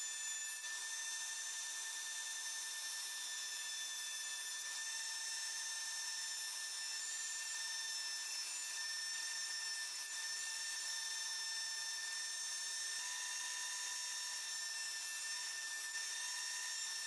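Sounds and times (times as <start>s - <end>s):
router whining: 0.0s - 17.0s.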